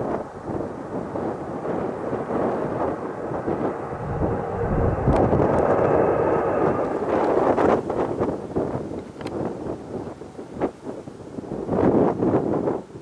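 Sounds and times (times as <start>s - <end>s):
jet engines deep rumble: 0.0s - 11.8s.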